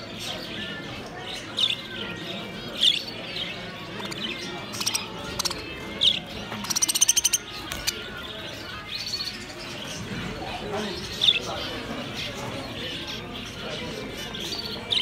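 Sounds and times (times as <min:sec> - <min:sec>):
budgerigars chirping: 0:00.0 - 0:15.0
low bird chatter: 0:00.0 - 0:15.0.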